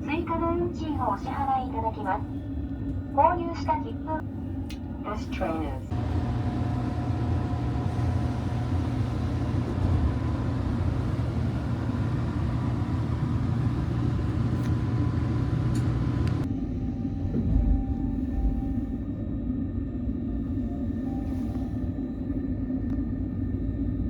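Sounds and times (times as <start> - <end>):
train rumble: 0.0 - 24.0
faint steady whine: 0.1 - 24.0.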